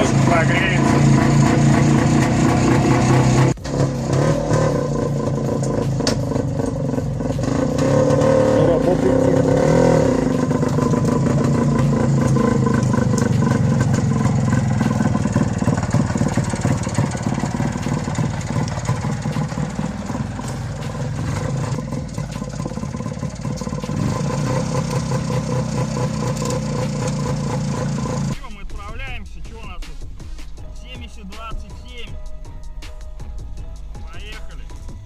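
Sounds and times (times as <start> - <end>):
scooter engine idling: 0.0 - 28.4.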